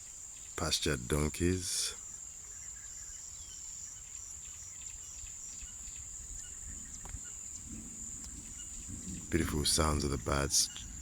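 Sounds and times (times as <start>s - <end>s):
faint bird chirps: 0.0s - 11.0s
high-pitched insect trill: 0.0s - 11.0s.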